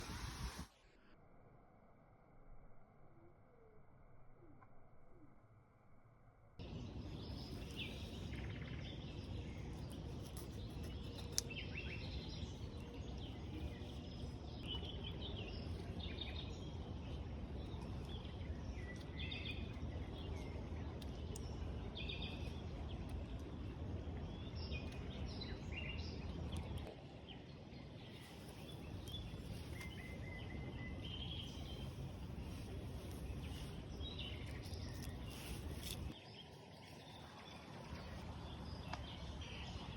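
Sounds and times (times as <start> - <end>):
low rushing background noise: 6.6 - 39.9
wild birds chirping: 6.6 - 39.9.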